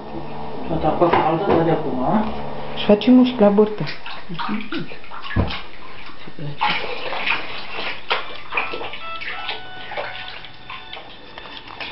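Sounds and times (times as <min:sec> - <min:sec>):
water running into a bath: 0:00.0 - 0:11.9.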